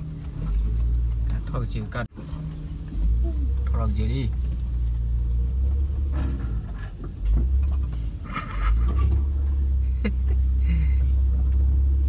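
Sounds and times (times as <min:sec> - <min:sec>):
vehicle rumble on dirt track: 0:00.0 - 0:12.0.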